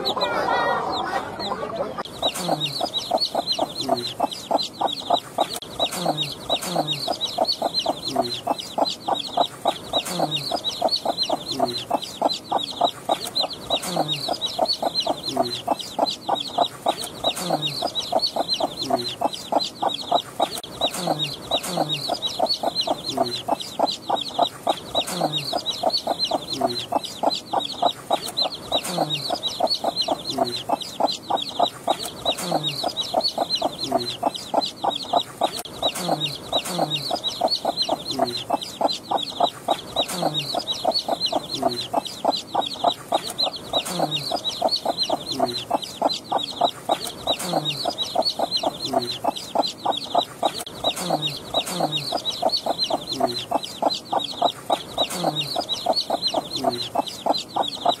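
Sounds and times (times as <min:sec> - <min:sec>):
chicks peeping rapidly: 0:00.0 - 0:58.0
hen clucking low: 0:00.0 - 0:58.0.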